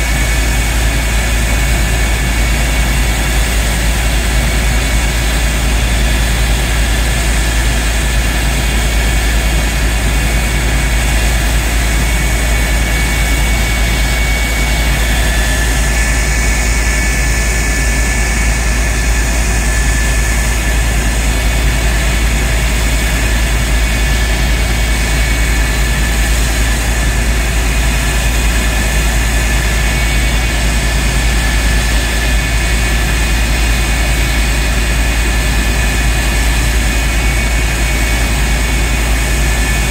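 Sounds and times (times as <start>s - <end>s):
jet engine rumble and whine: 0.0s - 39.9s.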